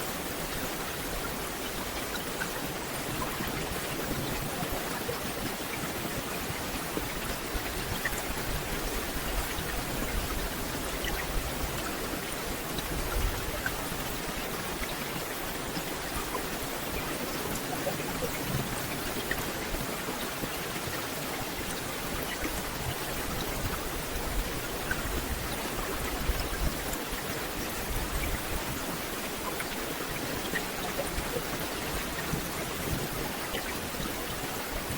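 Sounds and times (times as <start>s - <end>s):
rain hissing through foliage: 0.0s - 34.9s.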